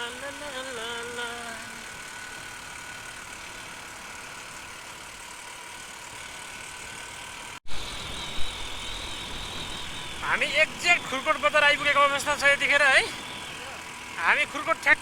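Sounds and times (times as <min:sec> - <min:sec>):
motorcycle engine hum: 0:00.0 - 0:15.0
wind and road hiss: 0:00.0 - 0:15.0.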